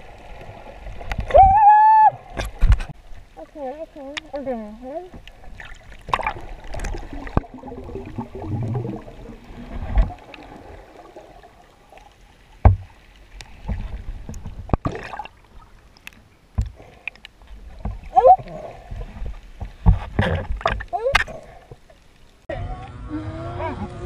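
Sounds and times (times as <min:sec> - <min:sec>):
water sloshing and gurgling: 0:00.0 - 0:22.5.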